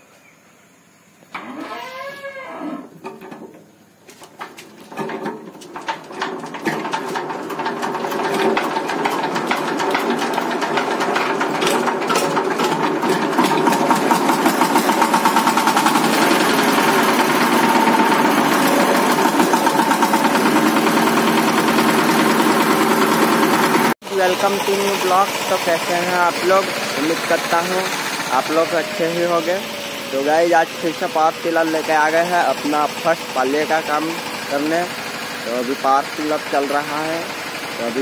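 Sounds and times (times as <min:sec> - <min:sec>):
diesel tiller engine clattering: 0:03.0 - 0:38.0.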